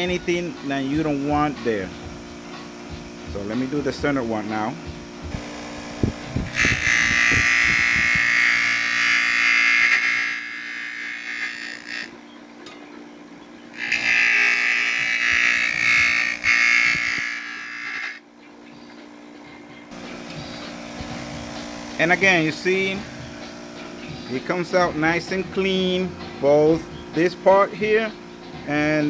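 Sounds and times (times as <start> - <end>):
bench grinder humming: 0.0 - 12.2, 13.7 - 18.3, 19.5 - 29.0.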